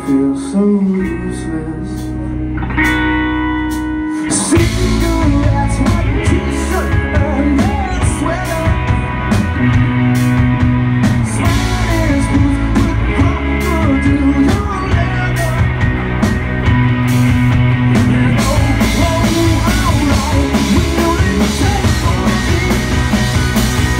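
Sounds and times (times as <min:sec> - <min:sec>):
electric guitars: 0:00.0 - 0:23.9
drum kit beat: 0:03.7 - 0:23.9.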